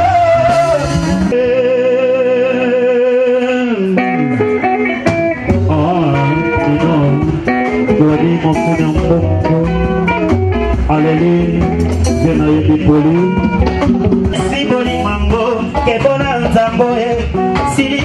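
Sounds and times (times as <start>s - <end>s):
drum kit and percussion: 0.0s - 1.4s, 4.4s - 18.0s
electric guitar: 0.0s - 18.0s.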